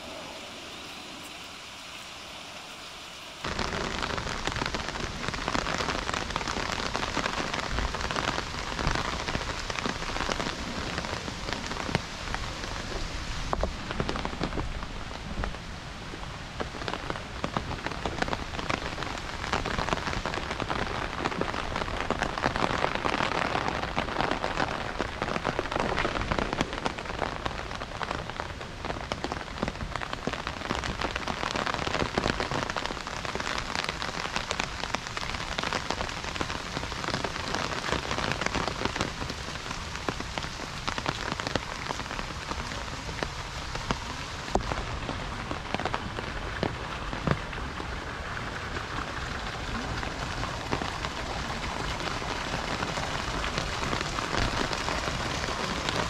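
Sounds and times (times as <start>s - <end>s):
raindrops ticking on a surface: 0.0s - 56.0s
steady rain hissing: 0.0s - 56.0s.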